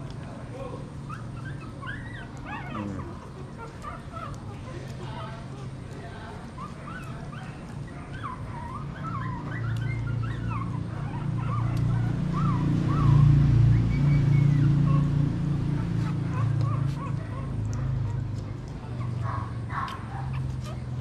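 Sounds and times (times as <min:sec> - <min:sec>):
puppies squeaking and whimpering: 0:00.8 - 0:21.0.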